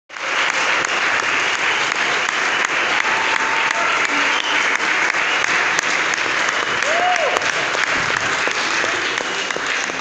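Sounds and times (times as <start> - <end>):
audience applause: 0.1 - 10.0.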